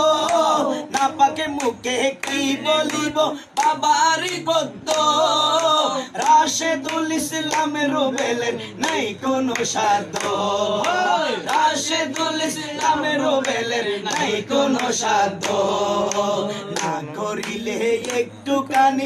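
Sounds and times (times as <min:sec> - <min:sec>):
hand claps: 0:00.0 - 0:19.0
man singing devotional song: 0:00.0 - 0:19.0
men's voices singing along: 0:00.0 - 0:19.0.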